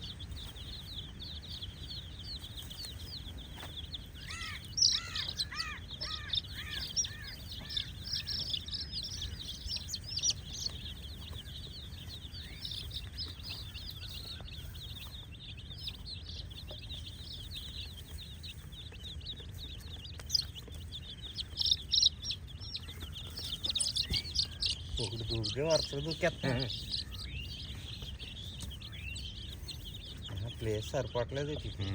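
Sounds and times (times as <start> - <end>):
baby chicks peeping: 0.0 - 31.9.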